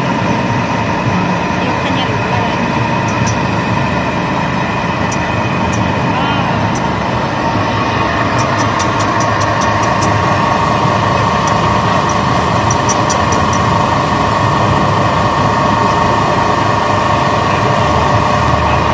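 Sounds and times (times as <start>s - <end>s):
pellet mill machine hum: 0.0s - 18.9s.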